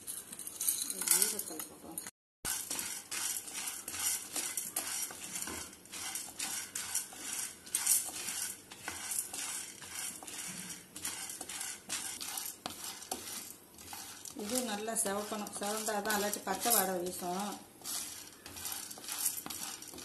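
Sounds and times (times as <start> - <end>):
spatula stirring lentils in pan: 2.5 - 20.0.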